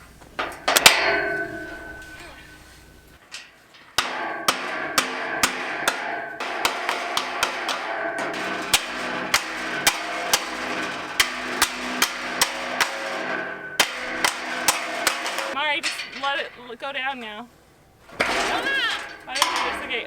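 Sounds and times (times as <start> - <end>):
metal ringing: 0.0 - 20.0
hammer blows on metal: 0.4 - 3.2, 4.0 - 20.0.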